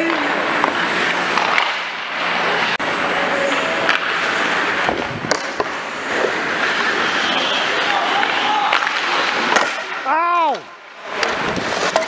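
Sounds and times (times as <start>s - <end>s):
hockey sticks and puck clicking: 0.0s - 2.0s, 3.4s - 4.2s, 4.9s - 12.0s
skates scraping on ice: 0.0s - 12.0s.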